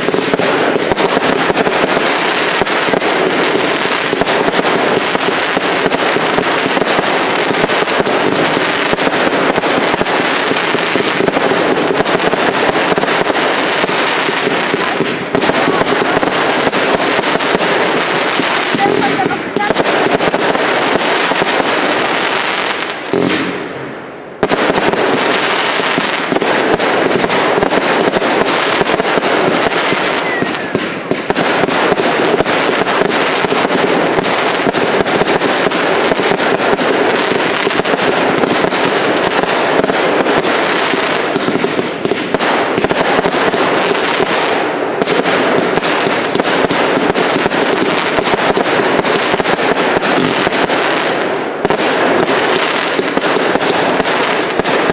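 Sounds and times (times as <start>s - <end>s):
crackling firework bursts: 0.0s - 54.9s
fireworks firing rapid shots: 0.0s - 54.9s.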